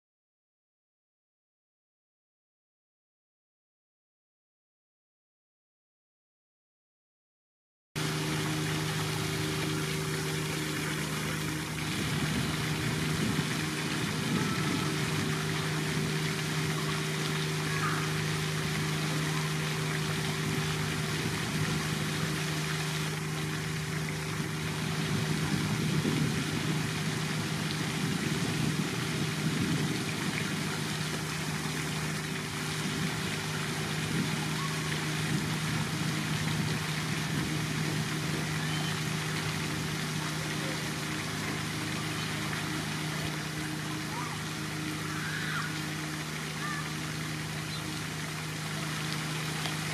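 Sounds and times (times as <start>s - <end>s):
constant low hum: 8.0s - 49.9s
trickling pond water: 8.0s - 49.9s.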